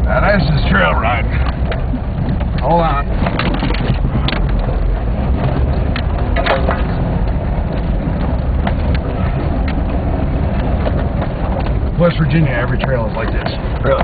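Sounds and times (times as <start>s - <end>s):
vehicle engine and road rumble: 0.0s - 14.0s
sharp knocks and rattles: 1.3s - 14.0s.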